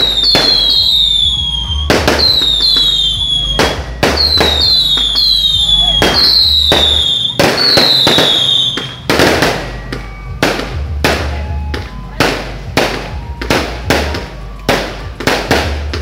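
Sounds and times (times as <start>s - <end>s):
fireworks bangs: 0.0s - 16.0s
whistling rocket: 0.0s - 16.0s.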